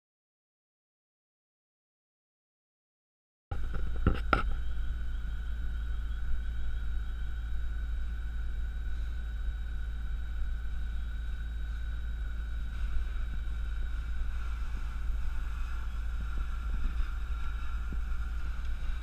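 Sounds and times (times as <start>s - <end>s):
fire engine pump rumbling: 3.5s - 19.0s
steady high whine: 3.5s - 19.0s.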